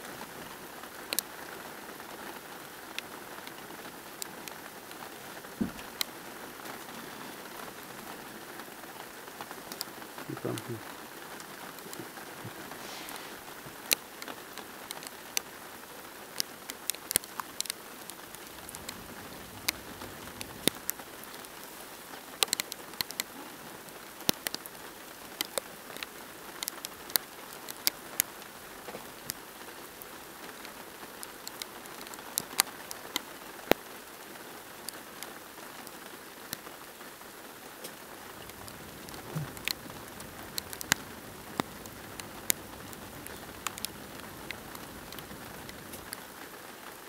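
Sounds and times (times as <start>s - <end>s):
steady rain hiss: 0.0s - 47.0s
raindrops tapping hard surface: 0.2s - 33.9s, 34.7s - 46.8s.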